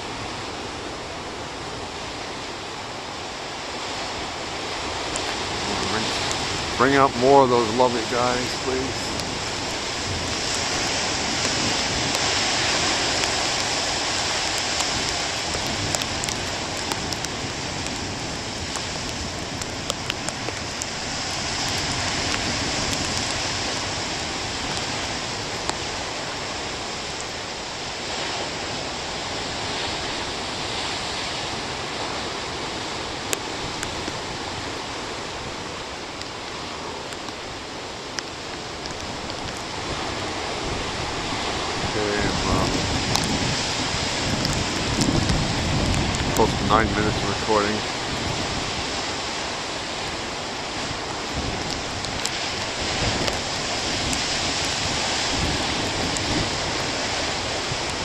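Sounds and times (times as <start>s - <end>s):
heavy surf breaking on rocks: 0.0s - 58.0s.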